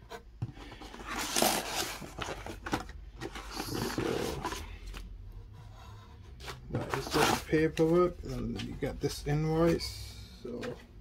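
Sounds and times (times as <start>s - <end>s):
paper and cardboard rustling: 0.0s - 9.9s.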